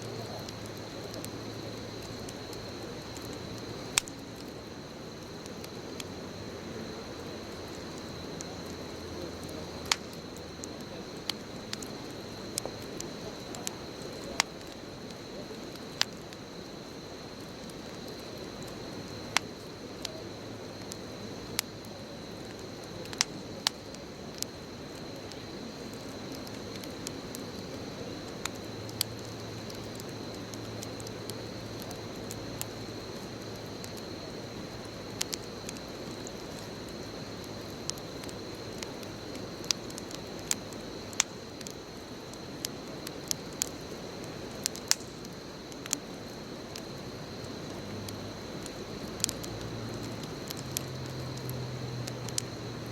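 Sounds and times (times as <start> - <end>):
bonfire flames rushing: 0.0 - 52.9
burning wood crackling and popping: 0.0 - 52.9.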